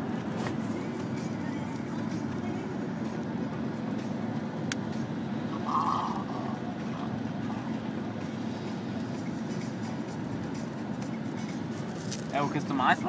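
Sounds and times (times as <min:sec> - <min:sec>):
vehicle cabin rumble: 0:00.0 - 0:13.0.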